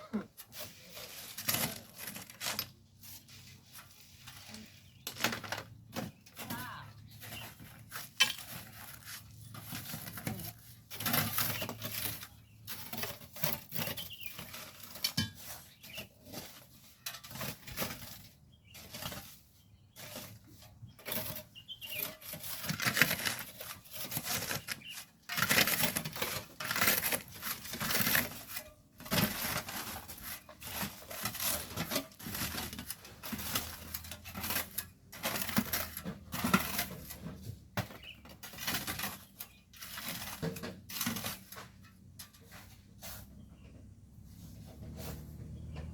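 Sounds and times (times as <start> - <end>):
hand tools scraping sand and stones: 0.1 - 45.9.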